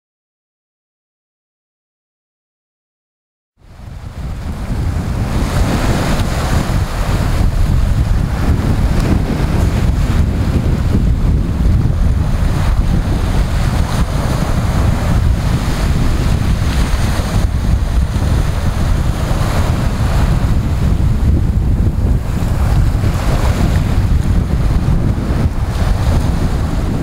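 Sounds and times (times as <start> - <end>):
waves breaking: 3.6 - 27.0
wind buffeting microphone: 3.6 - 27.0.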